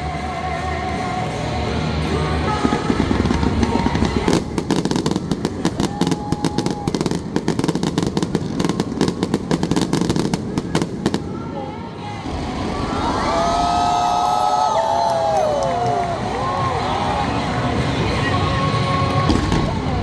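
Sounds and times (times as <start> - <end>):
fireworks bursts rumbling: 0.0 - 20.0
fireworks crackling: 0.0 - 20.0.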